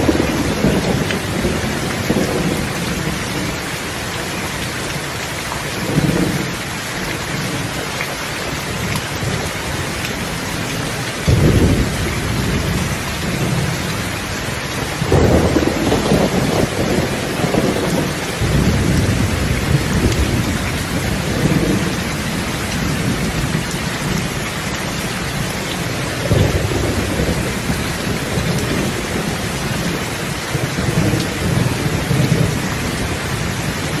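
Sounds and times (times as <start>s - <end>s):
thunder rumbling: 0.0s - 5.0s, 5.7s - 7.8s, 8.7s - 34.0s
rain hissing: 0.0s - 34.0s.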